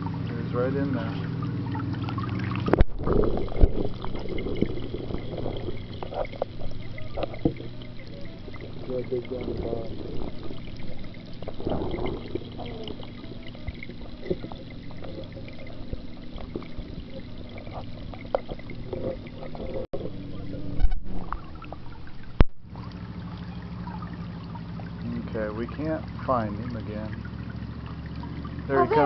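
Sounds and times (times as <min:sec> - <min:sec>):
steady low hum: 0:00.0 - 0:29.0
underwater water sloshing: 0:00.0 - 0:29.0.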